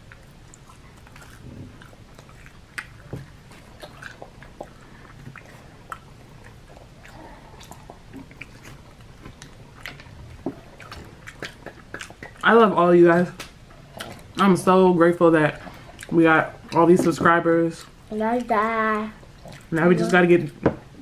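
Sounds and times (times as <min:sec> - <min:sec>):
chewing and lip-smacking: 0:00.0 - 0:14.5, 0:15.4 - 0:21.0.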